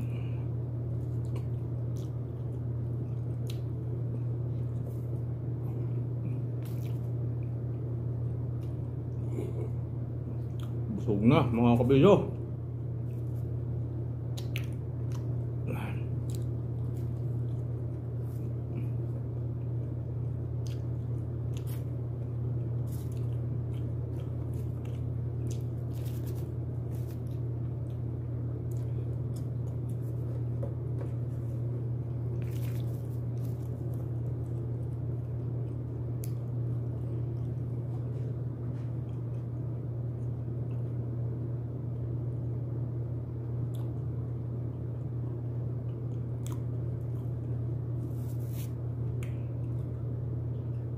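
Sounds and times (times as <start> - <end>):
chewing crispy chicken: 0.0 - 11.0, 12.3 - 42.2, 43.4 - 50.9
steady low hum: 0.0 - 50.9.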